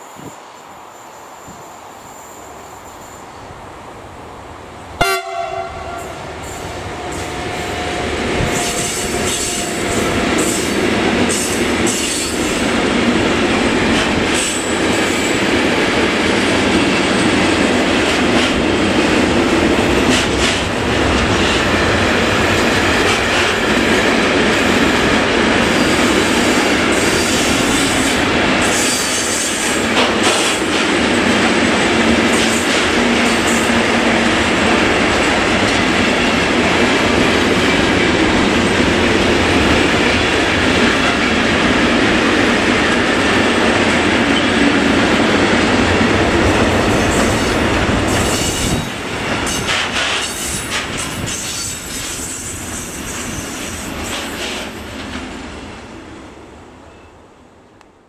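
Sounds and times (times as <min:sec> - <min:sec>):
train wheels rumbling on rails: 0:04.7 - 0:56.3.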